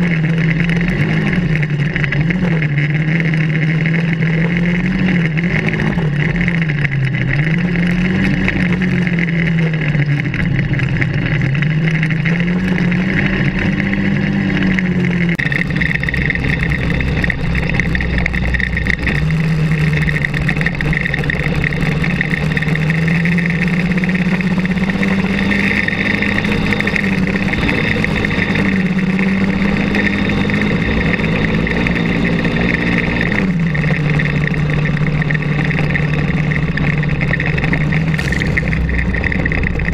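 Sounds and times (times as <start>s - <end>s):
buggy engine revving: 0.0s - 39.9s
constant rushing noise: 0.0s - 39.9s.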